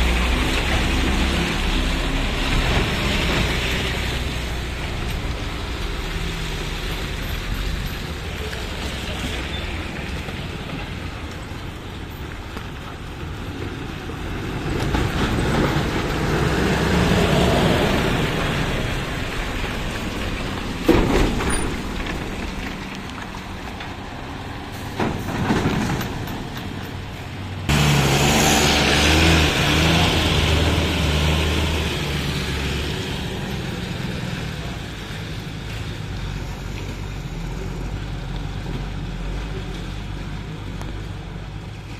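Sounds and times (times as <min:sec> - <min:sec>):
loud diesel engine hum: 0:00.0 - 0:21.9, 0:23.5 - 0:41.9
diesel trucks passing: 0:00.0 - 0:41.9.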